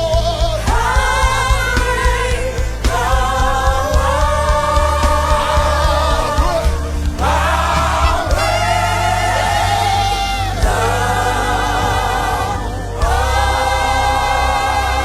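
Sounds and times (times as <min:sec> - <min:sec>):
band accompaniment: 0:00.0 - 0:15.0
voices singing gospel: 0:00.0 - 0:15.0.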